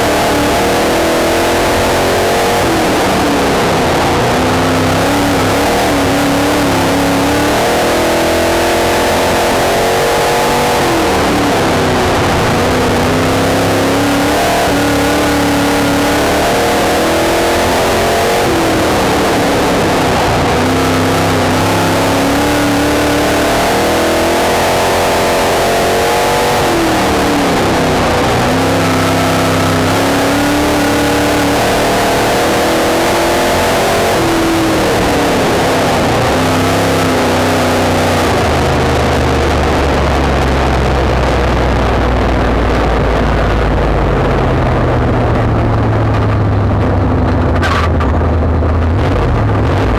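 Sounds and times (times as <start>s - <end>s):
race car engine revving: 0.0s - 49.9s.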